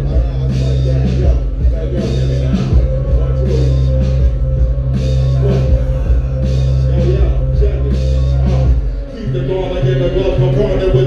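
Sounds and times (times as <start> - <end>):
hip-hop beat through pa: 0.0 - 11.0.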